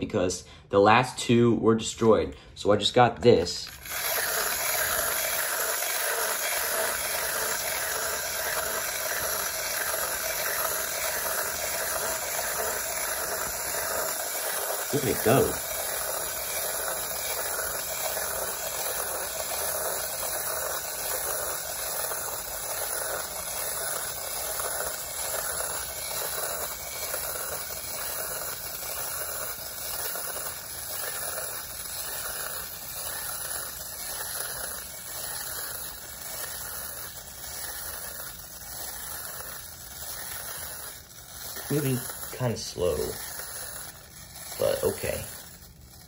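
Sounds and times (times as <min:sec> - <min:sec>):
clockwork toy whirring: 0:03.3 - 0:46.0.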